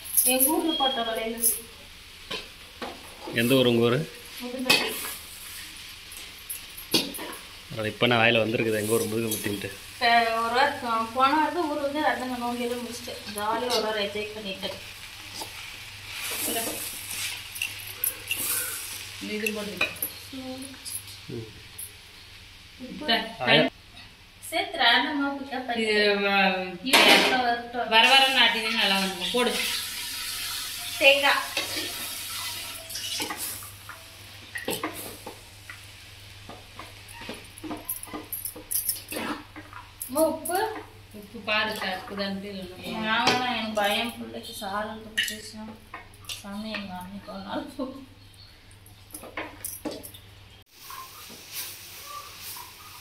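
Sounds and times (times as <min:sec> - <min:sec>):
leaves sizzling in a pan: 0:00.0 - 0:23.8, 0:24.4 - 0:48.8, 0:50.6 - 0:53.0.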